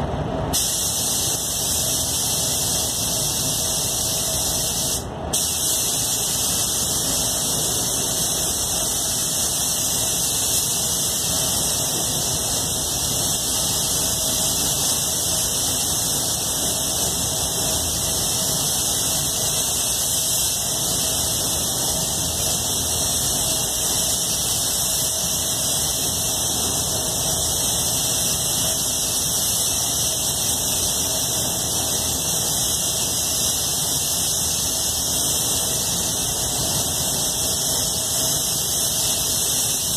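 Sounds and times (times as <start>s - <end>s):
spray booth airflow rushing: 0.5s - 39.9s
spray gun hissing: 0.5s - 39.9s.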